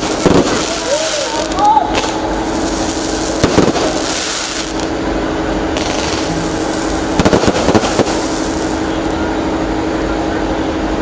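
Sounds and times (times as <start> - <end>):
firework bangs: 0.0 - 9.3
hiss of burning fireworks: 0.0 - 9.9.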